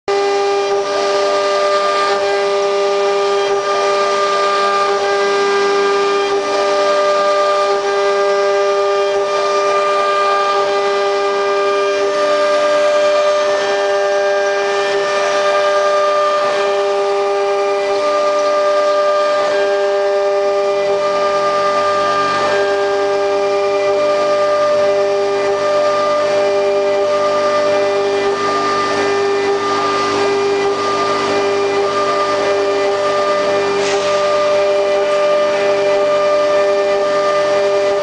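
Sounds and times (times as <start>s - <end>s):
router spindle whining: 0.1s - 38.0s.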